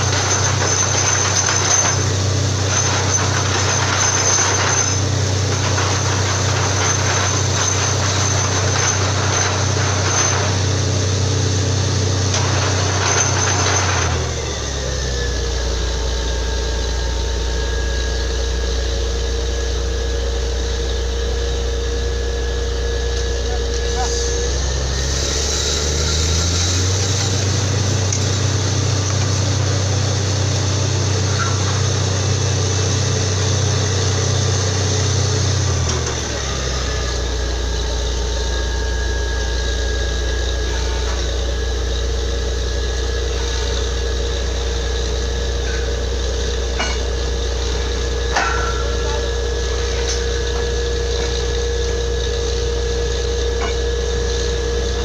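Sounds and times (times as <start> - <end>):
drilling rig engine running: 0.0 - 55.0.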